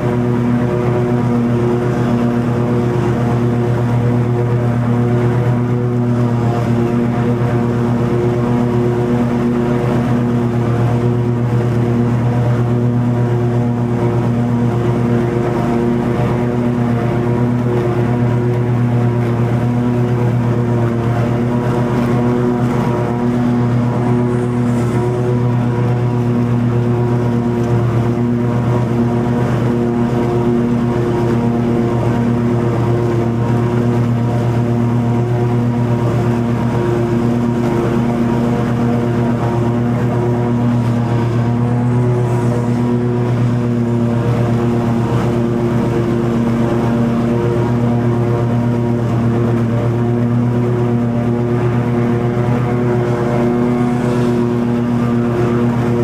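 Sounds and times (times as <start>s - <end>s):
lawn mower engine hum: 0.0s - 56.0s
mower blades cutting grass: 0.0s - 56.0s.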